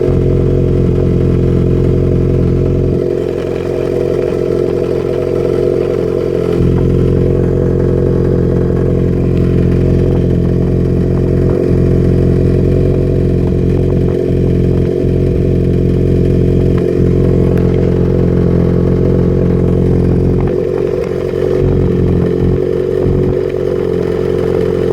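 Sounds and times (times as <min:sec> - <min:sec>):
engine running and misfiring: 0:00.0 - 0:24.9.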